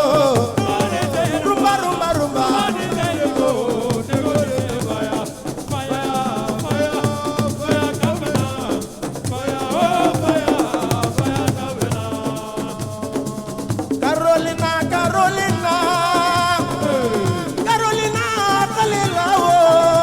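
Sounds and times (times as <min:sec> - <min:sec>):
driving percussion: 0:00.0 - 0:20.0
shakers rattling: 0:00.0 - 0:20.0.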